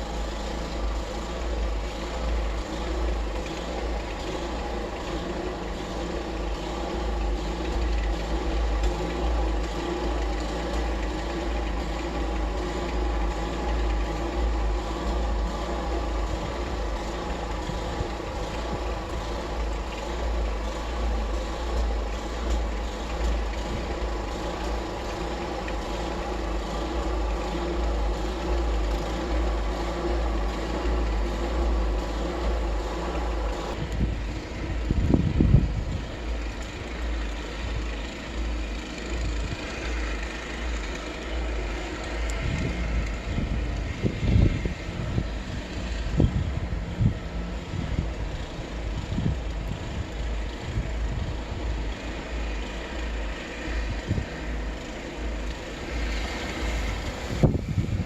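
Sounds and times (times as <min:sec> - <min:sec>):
engine running: 0:00.0 - 0:58.0
low rumble: 0:00.0 - 0:58.0.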